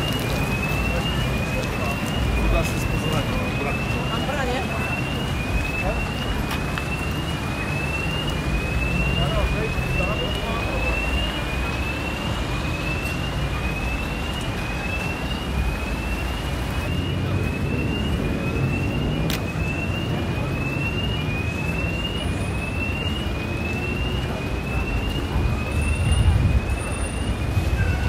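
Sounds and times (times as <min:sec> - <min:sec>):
rumble of passing cars: 0:00.0 - 0:28.0.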